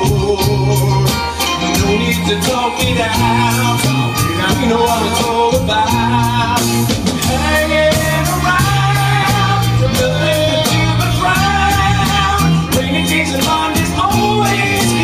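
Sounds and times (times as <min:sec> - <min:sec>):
pop-rock band instrumental: 0:00.0 - 0:15.0.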